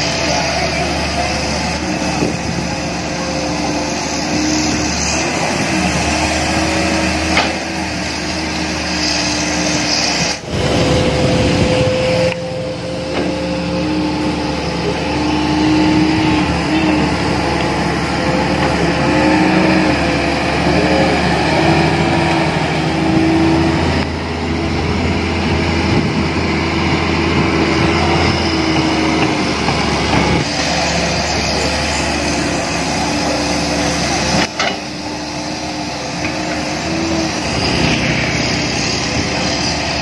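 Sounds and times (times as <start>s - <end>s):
excavator diesel engine under load: 0.0s - 40.0s
hydraulic whine: 0.0s - 40.0s.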